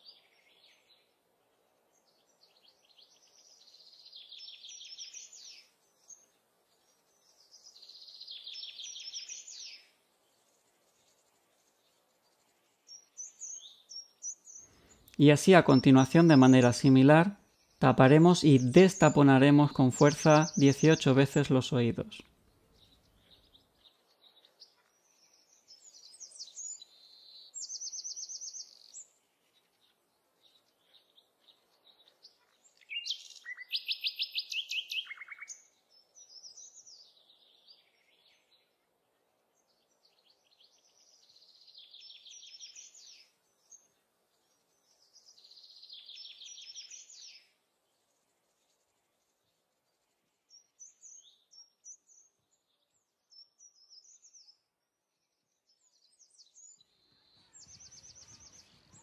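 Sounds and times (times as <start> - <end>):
songbirds singing trills: 0.0 - 59.0.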